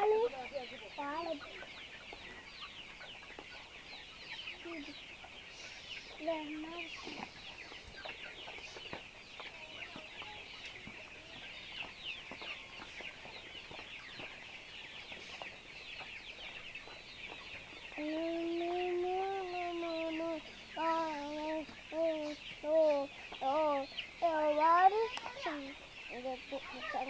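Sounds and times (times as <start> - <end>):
chickens chattering and clucking: 0.0 - 27.0.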